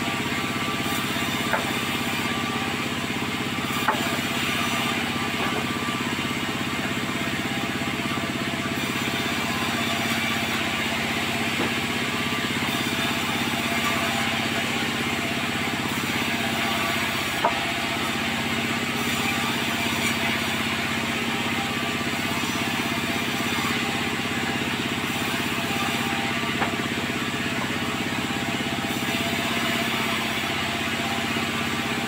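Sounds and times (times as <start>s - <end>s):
sawmill machinery droning: 0.0s - 32.0s.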